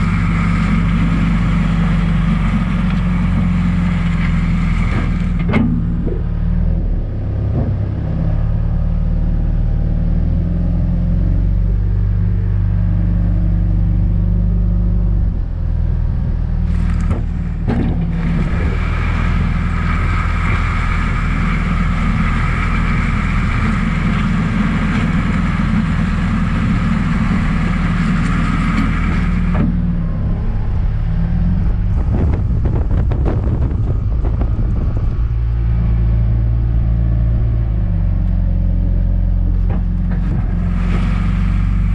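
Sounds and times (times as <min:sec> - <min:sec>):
backhoe diesel engine running: 0:00.0 - 0:41.9.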